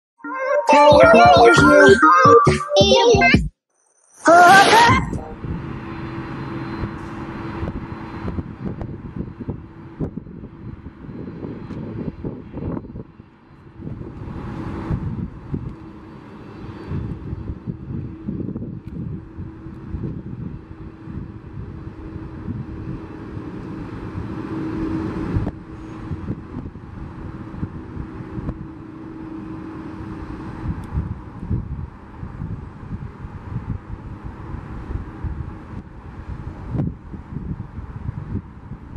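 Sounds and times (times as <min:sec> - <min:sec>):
jet engines at taxi thrust: 0:04.7 - 0:38.9.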